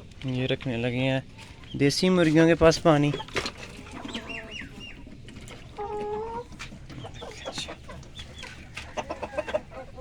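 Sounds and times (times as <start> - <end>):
hens clucking: 0.4 - 10.0.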